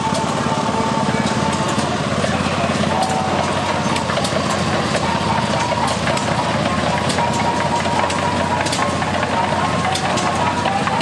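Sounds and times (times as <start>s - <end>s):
steel tracks clanking: 0.0s - 11.0s
tractor engine running: 0.0s - 11.0s.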